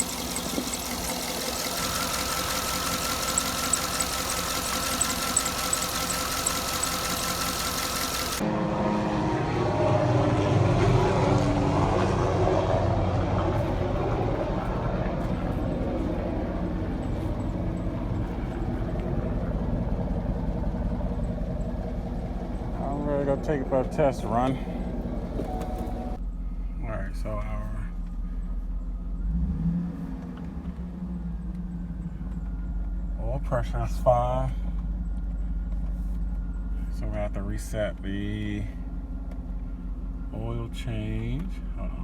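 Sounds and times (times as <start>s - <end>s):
engine ticking: 0.0s - 8.4s, 10.9s - 26.5s, 30.2s - 42.0s
car engine idling: 0.0s - 42.0s.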